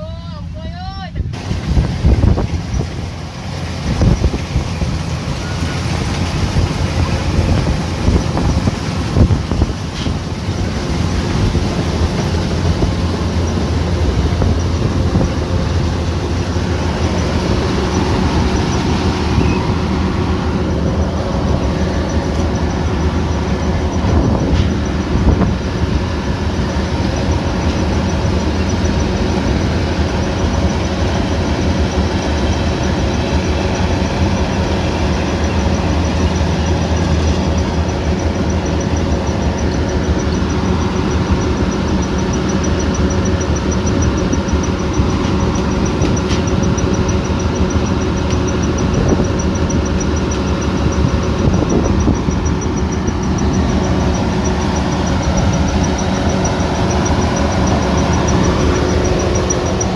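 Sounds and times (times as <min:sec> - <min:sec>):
combine harvester engine hum: 0:00.0 - 0:59.9
mechanical noise: 0:01.4 - 0:59.9.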